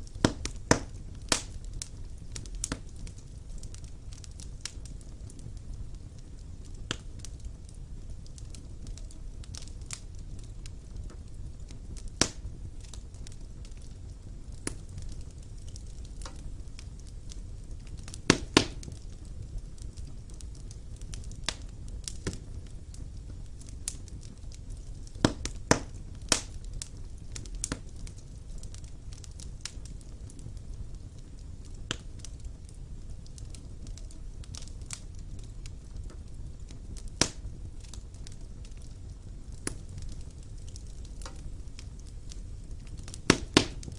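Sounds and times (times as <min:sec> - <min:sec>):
fire crackling and popping: 0:00.0 - 0:43.9
rumble of flames: 0:00.0 - 0:43.9.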